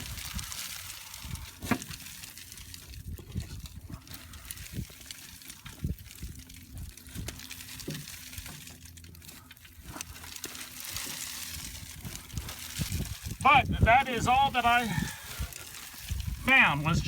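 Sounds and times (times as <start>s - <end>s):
hand rustling through crop debris: 0.0s - 13.4s, 15.0s - 16.5s.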